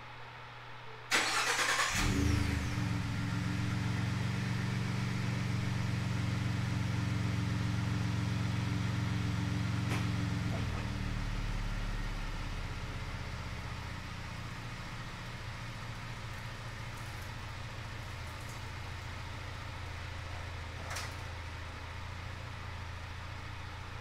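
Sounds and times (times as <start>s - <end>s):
truck engine idling: 1.2s - 24.0s.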